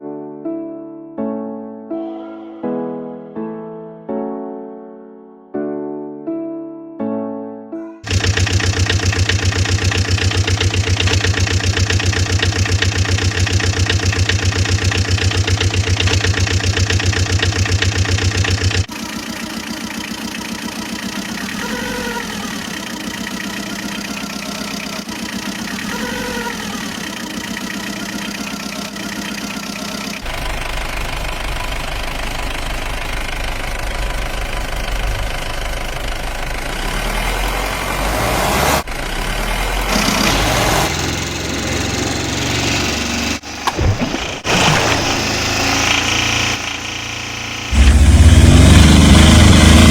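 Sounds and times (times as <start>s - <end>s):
deep engine running: 8.0s - 49.9s
engine chugging: 8.0s - 49.9s.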